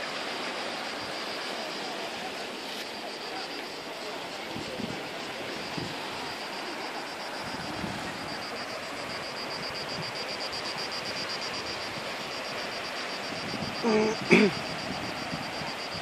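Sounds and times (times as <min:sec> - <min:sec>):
cicadas singing: 0:00.0 - 0:16.0
steady rushing background noise: 0:00.0 - 0:16.0.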